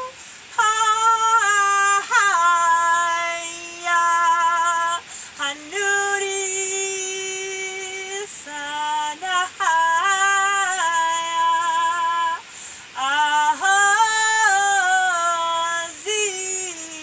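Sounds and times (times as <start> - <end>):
woman singing wordless chant: 0.0 - 17.0.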